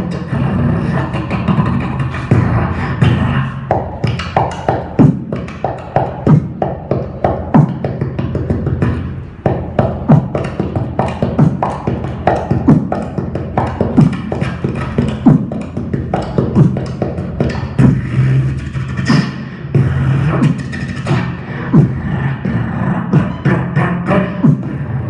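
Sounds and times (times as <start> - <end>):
beatboxing drum sounds: 0.0 - 25.0.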